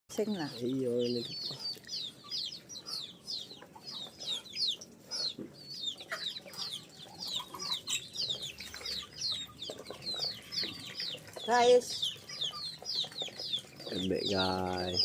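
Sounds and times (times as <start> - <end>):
ducklings peeping: 0.1 - 15.0.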